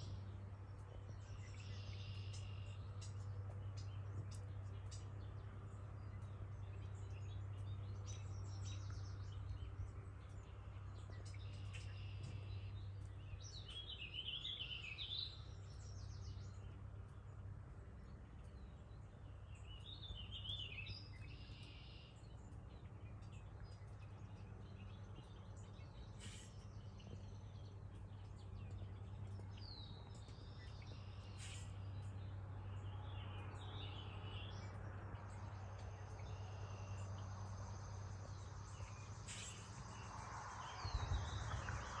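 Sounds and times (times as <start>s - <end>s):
songbirds chirping: 0.0s - 42.0s
steady low hum: 0.0s - 42.0s.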